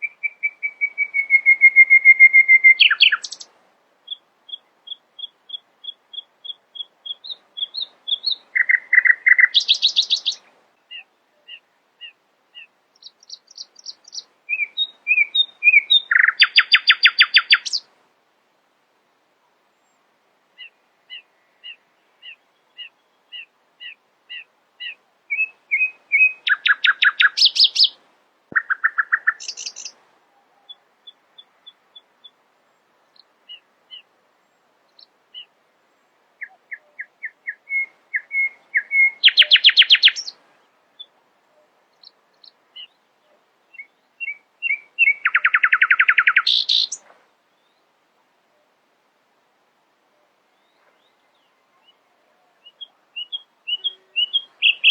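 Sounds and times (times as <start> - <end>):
nightingale singing: 0.0 - 17.9, 20.6 - 47.9, 50.1 - 54.9.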